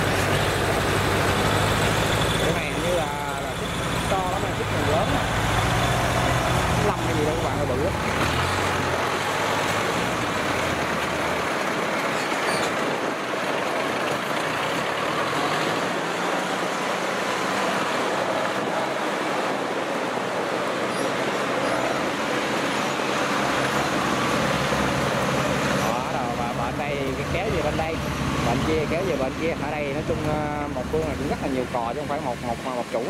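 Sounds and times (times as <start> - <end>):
tracked vehicle engine hum: 0.0 - 33.0.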